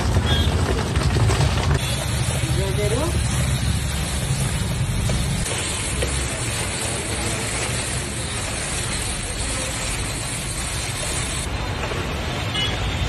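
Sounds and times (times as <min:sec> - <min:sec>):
busy food stall din: 0:00.0 - 0:13.0.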